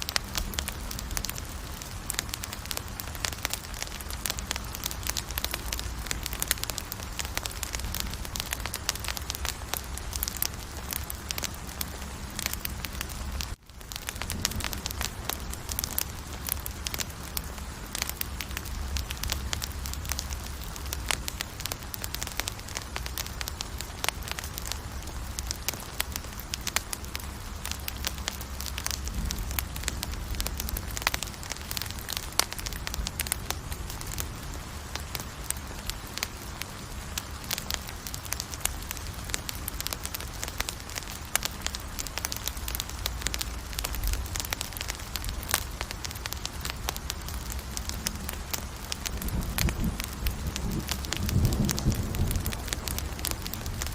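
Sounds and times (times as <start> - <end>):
campfire crackling: 0.0 - 53.9
low fire rumble: 0.0 - 53.9.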